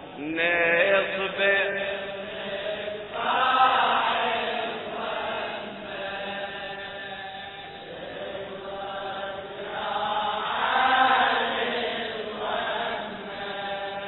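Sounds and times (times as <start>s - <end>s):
voices chanting mourning elegy: 0.0s - 14.0s.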